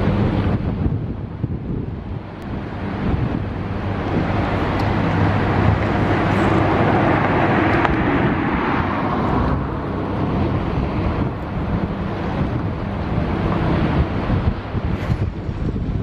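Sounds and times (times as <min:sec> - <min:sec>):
low steady hum: 0:00.0 - 0:16.0
wind rushing over microphone: 0:00.0 - 0:16.0.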